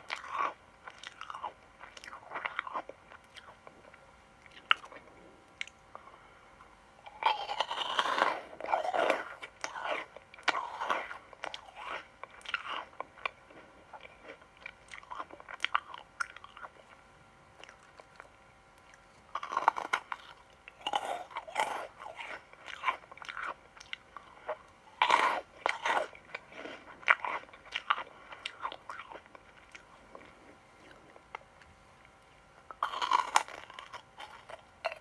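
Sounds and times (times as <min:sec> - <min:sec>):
crunchy sweets being chewed: 0:00.0 - 0:35.0.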